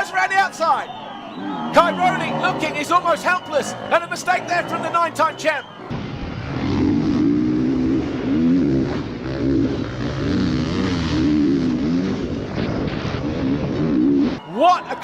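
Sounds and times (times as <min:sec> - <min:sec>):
motocross bike engines revving: 0:00.8 - 0:14.5.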